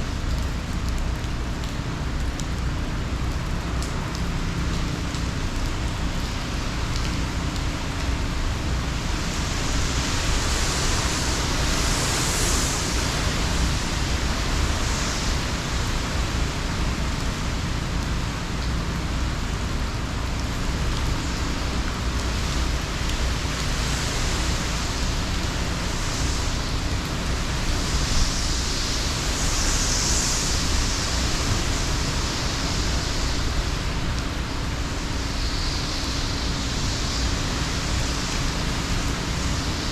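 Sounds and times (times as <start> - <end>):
heavy rain: 0.0 - 39.9
gusting wind: 4.9 - 39.9.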